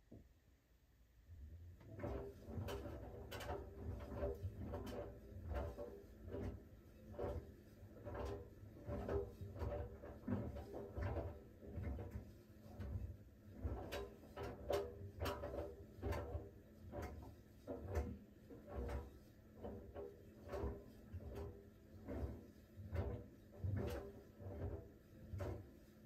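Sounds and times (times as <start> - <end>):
clothes tumbling with soft knocks: 1.8 - 26.0
washer-dryer drum turning: 1.8 - 26.0.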